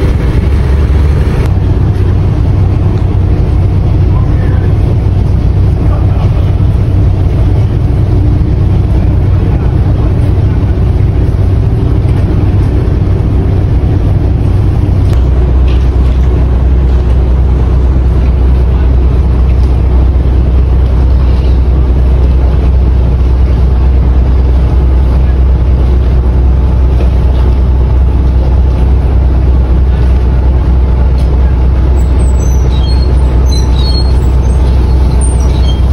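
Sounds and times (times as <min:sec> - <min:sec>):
boat engine droning: 0:00.0 - 0:35.9.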